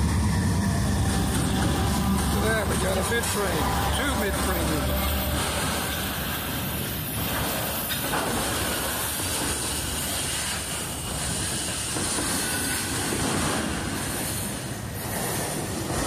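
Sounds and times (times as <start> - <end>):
diesel locomotive engine: 0.0 - 16.0
steel wheels on rail: 0.0 - 16.0.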